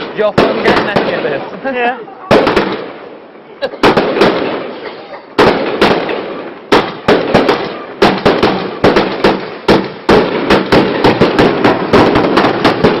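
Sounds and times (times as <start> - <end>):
fireworks shots with hiss: 0.0 - 13.0.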